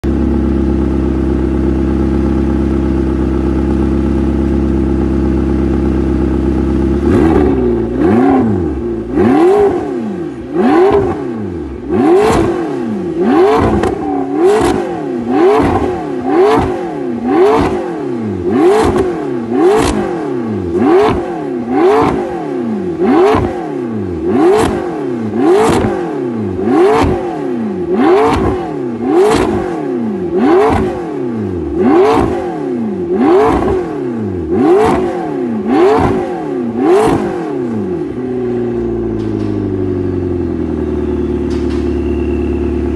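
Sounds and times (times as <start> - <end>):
car engine idling: 0.0 - 42.9
engine revving: 1.8 - 42.9.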